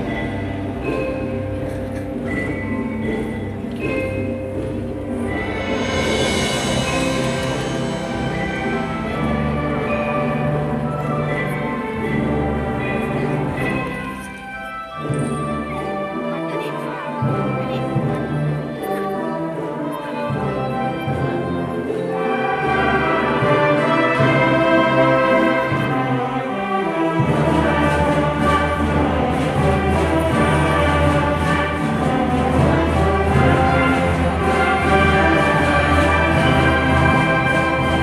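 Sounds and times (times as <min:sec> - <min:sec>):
wind band playing: 0:00.0 - 0:38.0.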